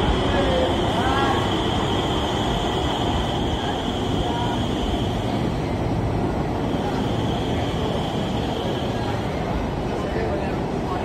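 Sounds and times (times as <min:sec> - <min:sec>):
train wheels rumbling: 0:00.0 - 0:10.9
high train whine: 0:00.0 - 0:11.0.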